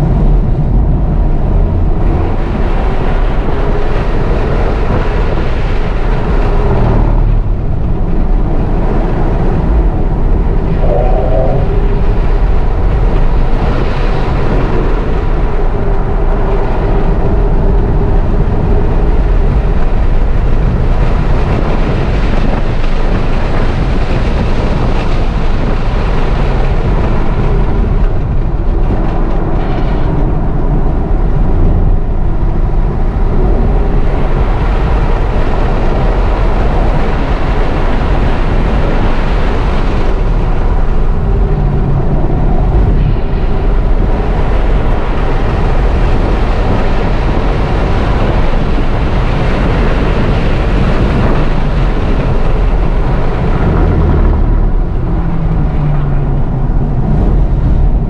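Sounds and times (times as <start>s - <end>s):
heavy low rumble: 0.0s - 58.0s
wind and road noise: 0.0s - 58.0s.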